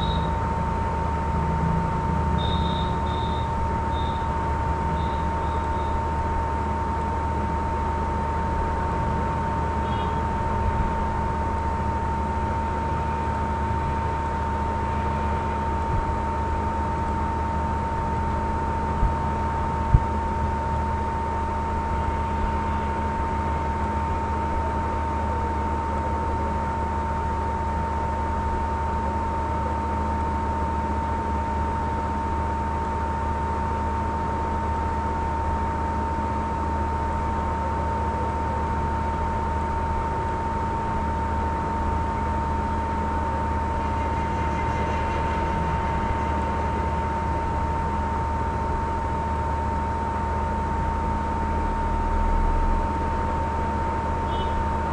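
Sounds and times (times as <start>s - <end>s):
high-pitched whine: 0.0s - 27.6s, 30.8s - 54.9s.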